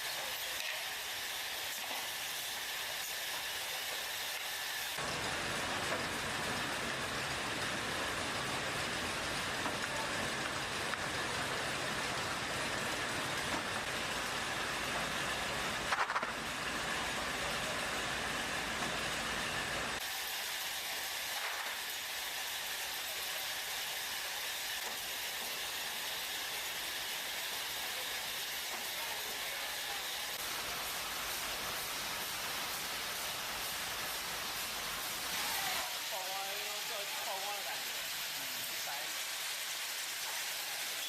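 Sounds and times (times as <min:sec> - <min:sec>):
factory machinery noise: 0:00.0 - 0:41.0.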